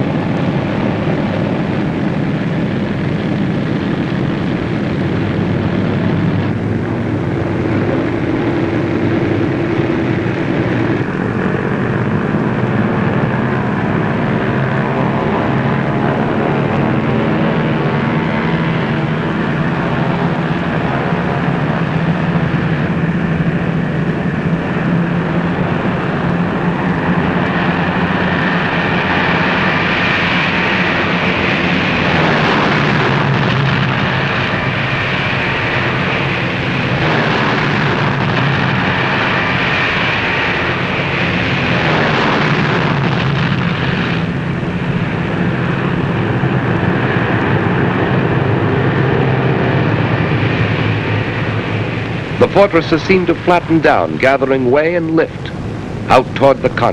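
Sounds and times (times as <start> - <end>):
propeller plane engines droning: 0.0 - 56.9.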